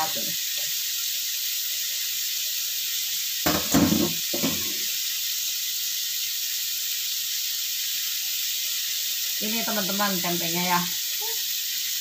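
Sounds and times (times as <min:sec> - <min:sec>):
beef sizzling in oil: 0:00.0 - 0:12.0.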